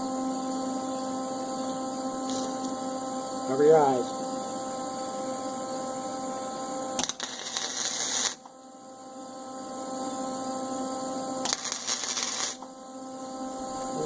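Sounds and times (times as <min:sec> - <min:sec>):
arc welding crackle: 0:00.0 - 0:08.6, 0:10.1 - 0:14.0
steady electrical hum: 0:00.0 - 0:14.0.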